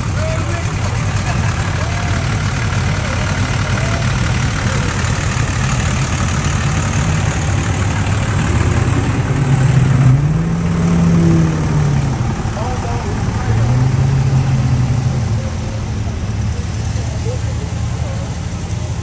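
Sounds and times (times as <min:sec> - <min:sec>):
car engines idling and rumbling: 0:00.0 - 0:19.0.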